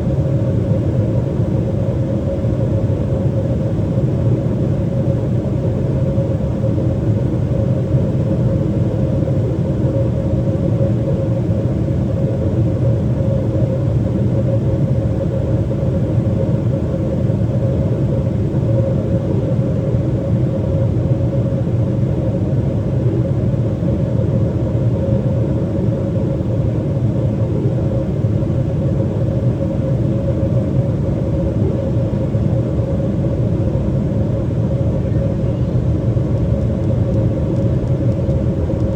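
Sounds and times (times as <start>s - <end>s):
aircraft cabin rumble: 0.0s - 38.9s
steady mid-pitched hum: 0.0s - 38.9s.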